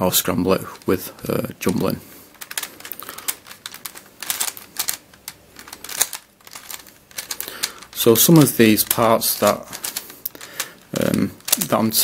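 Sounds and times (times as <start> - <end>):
plastic puzzle clicking as turned: 0.6 - 12.0.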